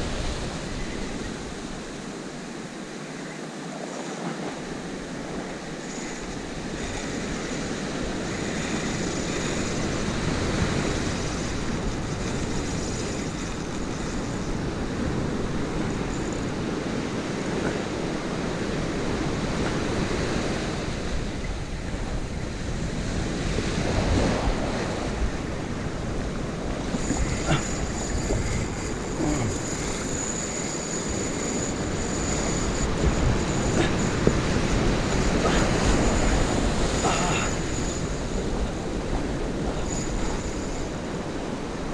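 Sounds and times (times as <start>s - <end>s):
wind rumbling on microphone: 0.0s - 2.8s, 4.5s - 41.9s
ocean surf breaking: 0.0s - 41.9s.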